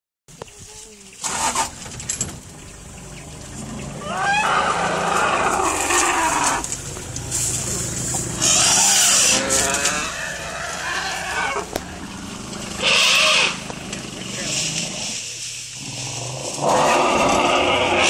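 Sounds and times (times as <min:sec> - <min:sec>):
elephants trumpeting: 0:01.2 - 0:01.8, 0:02.8 - 0:18.0
elephants roaring: 0:02.8 - 0:18.0.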